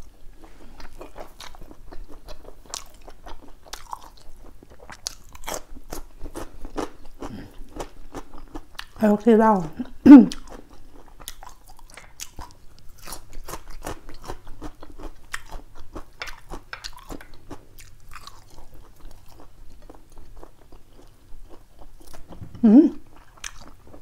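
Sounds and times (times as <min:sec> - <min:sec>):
person chewing food: 0:00.0 - 0:09.0, 0:09.7 - 0:24.0.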